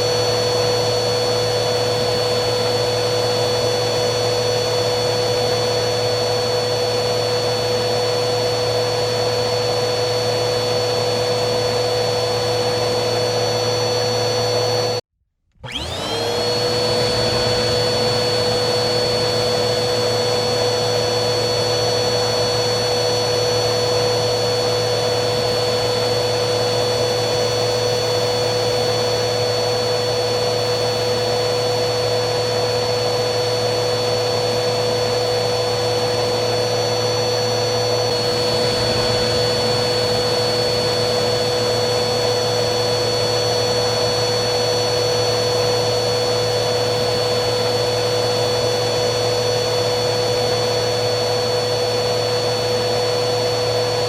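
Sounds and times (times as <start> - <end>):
vacuum cleaner motor whining: 0.0 - 54.0.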